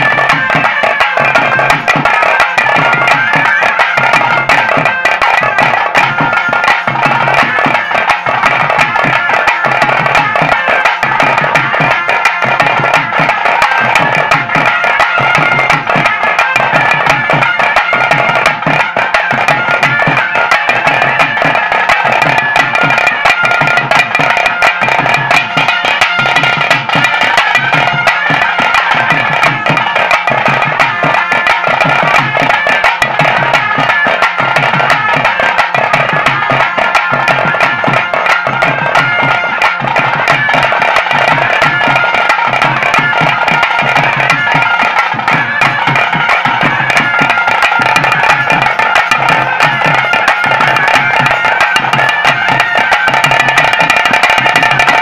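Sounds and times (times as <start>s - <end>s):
steady drum beat: 0.0s - 55.0s.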